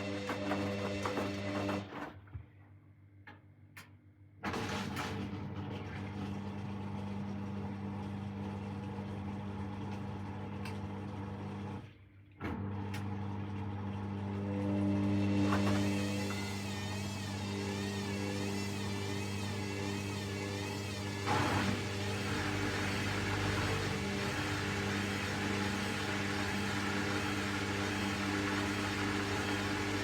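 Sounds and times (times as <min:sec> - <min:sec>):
washing machine drain pump humming: 0:00.0 - 0:01.9, 0:04.6 - 0:11.9, 0:12.5 - 0:30.0.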